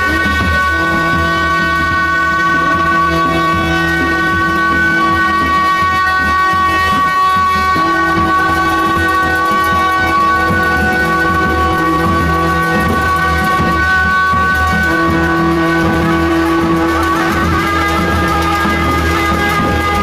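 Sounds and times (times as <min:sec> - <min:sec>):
double-reed horns playing held notes: 0:00.0 - 0:20.0.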